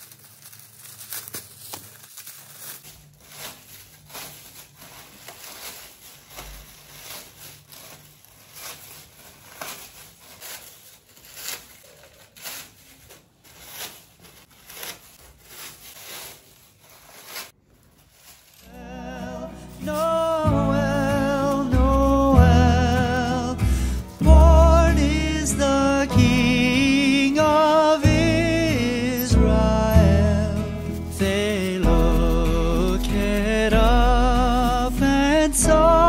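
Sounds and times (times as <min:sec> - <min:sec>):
plastic branches rustling: 0:00.0 - 0:36.0.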